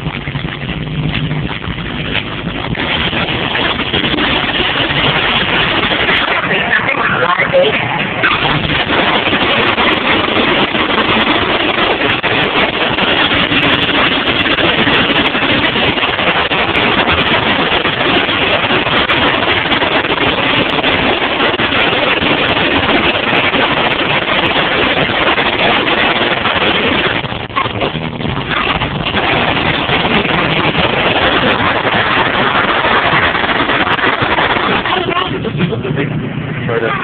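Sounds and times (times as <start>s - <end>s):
distorted subwoofer bass roar: 0.0s - 37.0s.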